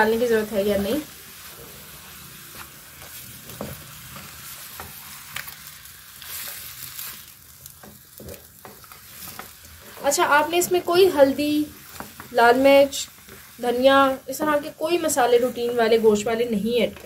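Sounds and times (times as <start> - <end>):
chicken sizzling in a pan: 0.0 - 17.0
spatula stirring and scraping: 0.2 - 17.0.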